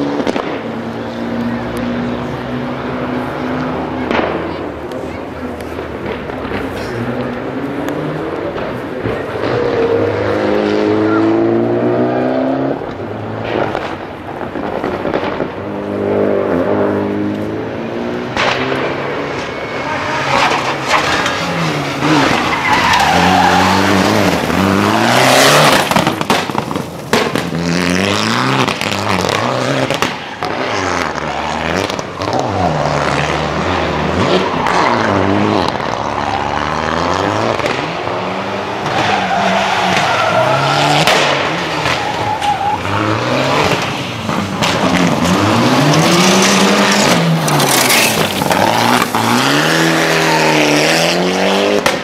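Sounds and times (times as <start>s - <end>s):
rally car engine revving: 0.0s - 52.0s
tyres skidding on gravel: 0.0s - 52.0s.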